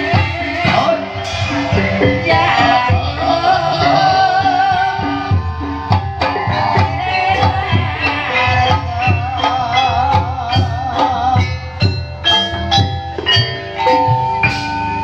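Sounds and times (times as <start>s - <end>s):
wavering held melody: 0.0s - 15.0s.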